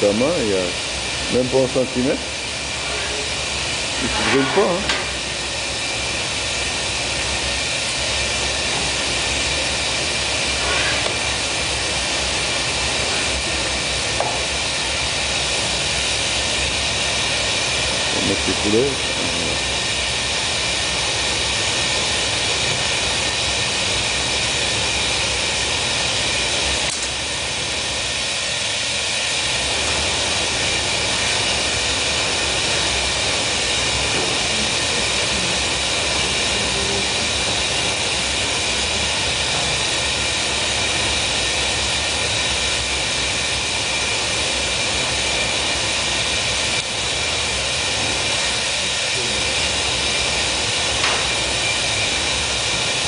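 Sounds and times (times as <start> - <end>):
gas burners and blowers rushing: 0.0 - 53.0.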